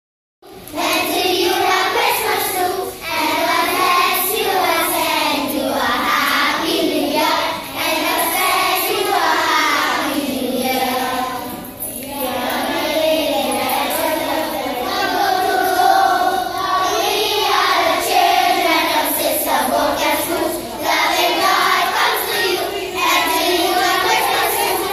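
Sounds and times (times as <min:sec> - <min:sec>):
children's choir singing a carol: 0:00.4 - 0:24.9.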